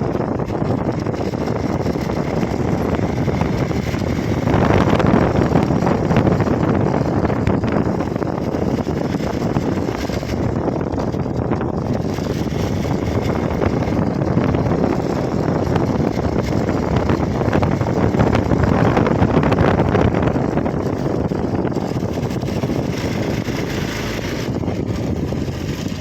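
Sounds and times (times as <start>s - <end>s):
motorcycle engine: 0.0s - 26.0s
road noise: 0.0s - 26.0s
wind rushing over microphone: 0.0s - 26.0s.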